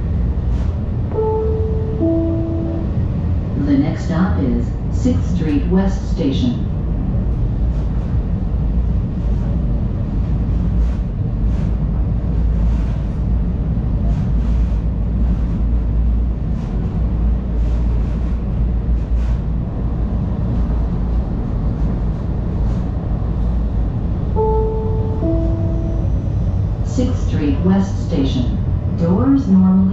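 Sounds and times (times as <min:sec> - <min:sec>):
train rumble: 0:00.0 - 0:29.9.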